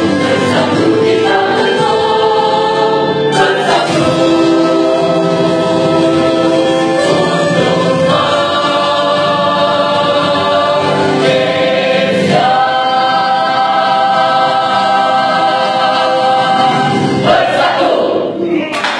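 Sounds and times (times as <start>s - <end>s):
mixed choir singing: 0.0s - 18.5s.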